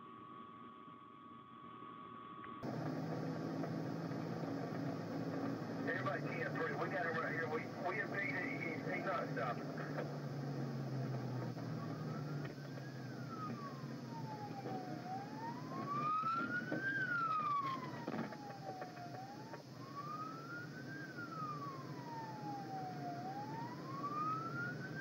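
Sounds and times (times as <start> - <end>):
police siren wailing: 2.6 - 25.0
road noise: 2.6 - 25.0.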